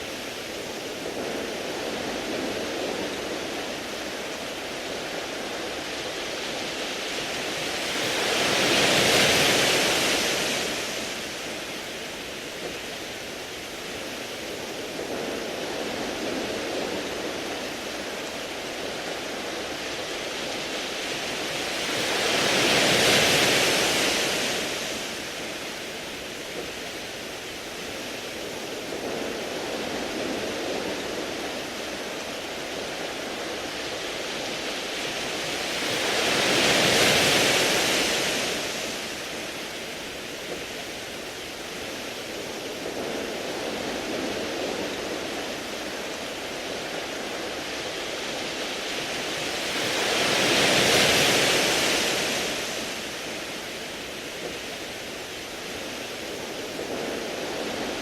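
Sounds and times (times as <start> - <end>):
waves on pebble beach: 0.0 - 58.0.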